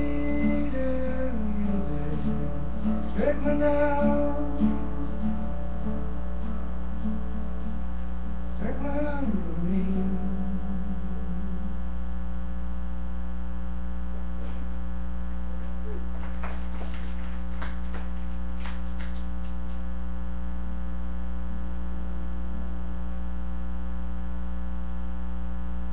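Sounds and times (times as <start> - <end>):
electrical mains hum: 0.0 - 25.9.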